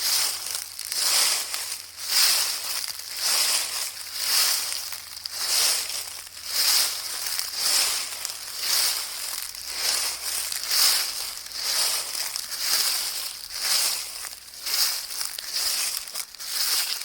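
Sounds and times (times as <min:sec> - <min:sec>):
footsteps crunching dry leaves: 0:00.0 - 0:17.0.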